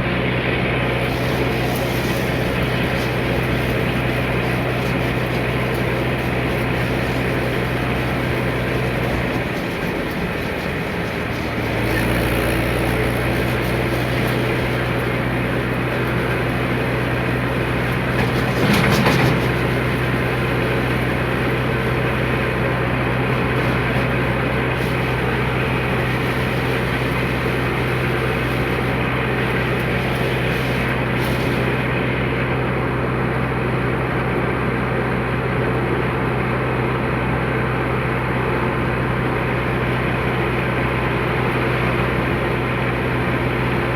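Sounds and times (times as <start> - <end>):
tractor diesel engine humming: 0.0 - 43.9.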